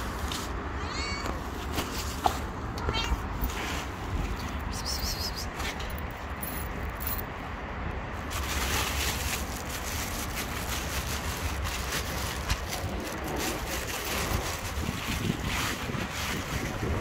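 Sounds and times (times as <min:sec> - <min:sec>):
wind blowing across microphone: 0:01.3 - 0:17.0.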